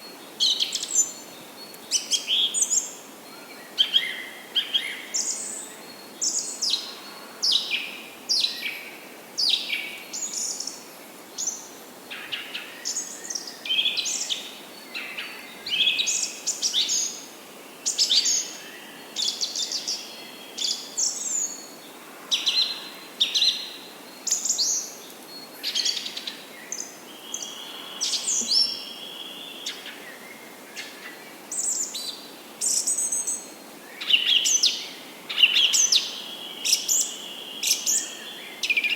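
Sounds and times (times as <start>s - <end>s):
faint background hiss: 0.0s - 38.9s.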